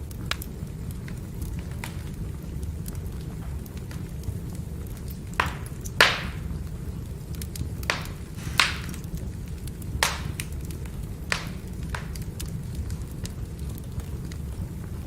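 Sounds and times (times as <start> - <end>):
fire crackling pops: 0.0 - 15.0
firewood burning rumble: 0.0 - 15.0.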